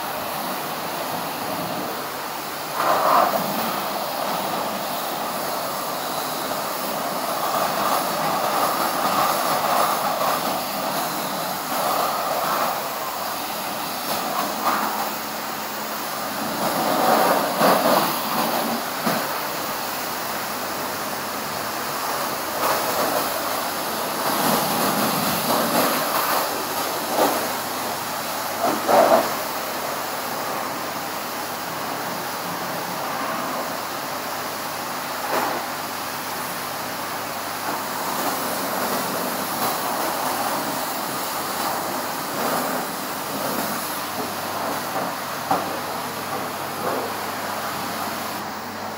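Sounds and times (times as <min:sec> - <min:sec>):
pressure washer spraying water: 0:00.0 - 0:48.9.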